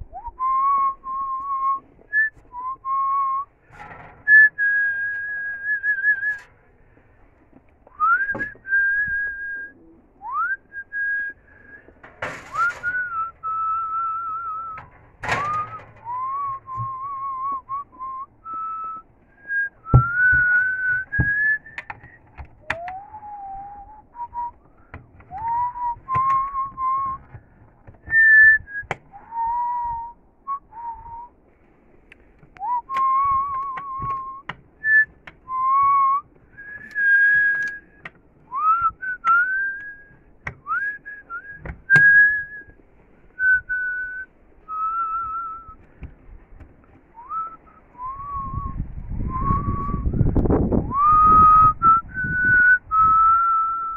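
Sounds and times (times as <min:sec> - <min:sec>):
person whistling a slow tune: 0:00.1 - 0:03.5, 0:04.3 - 0:06.5, 0:07.9 - 0:11.9, 0:12.6 - 0:27.4, 0:28.0 - 0:31.4, 0:32.6 - 0:42.8, 0:43.4 - 0:45.9, 0:47.1 - 0:50.3, 0:50.9 - 0:53.9.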